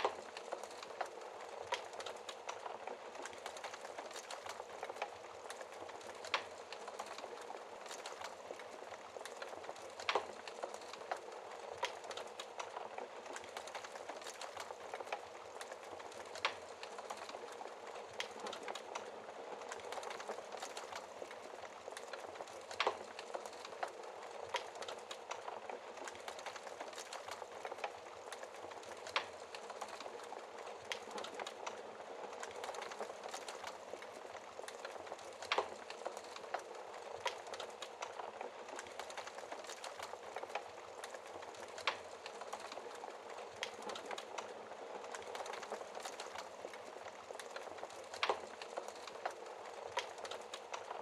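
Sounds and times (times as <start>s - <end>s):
fire crackling and hissing: 0.0s - 51.0s.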